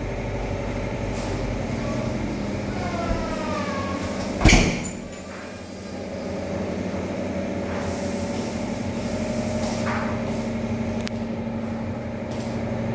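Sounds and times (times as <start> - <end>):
steady mechanical hum: 0.0 - 12.9.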